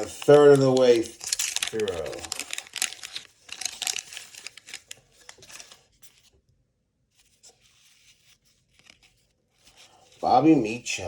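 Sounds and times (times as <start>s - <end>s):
cards and wrapper rustling: 0.0s - 6.4s, 7.2s - 10.8s.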